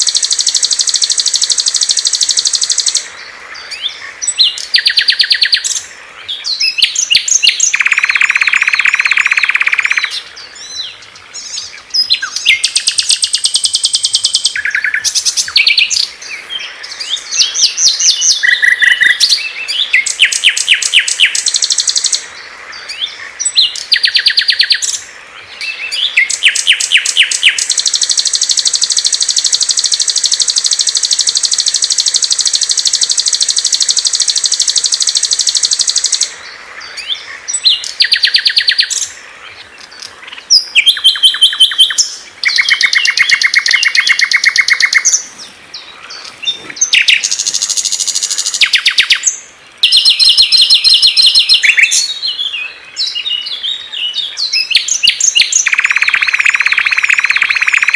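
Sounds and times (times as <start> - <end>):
songbirds trilling: 0.0 - 57.9.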